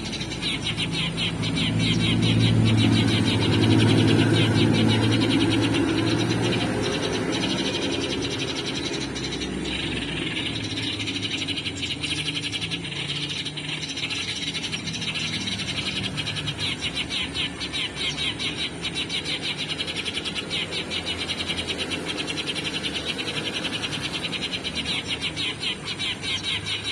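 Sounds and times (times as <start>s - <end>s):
sparrows chirping: 0.0s - 26.9s.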